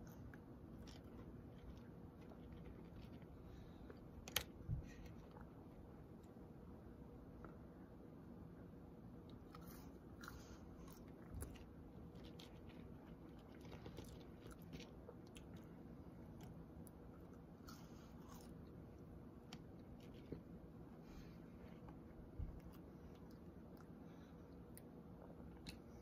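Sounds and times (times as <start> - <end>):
person chewing food: 0.0 - 6.4, 9.2 - 20.6, 21.8 - 26.0
low room hum: 0.0 - 26.0.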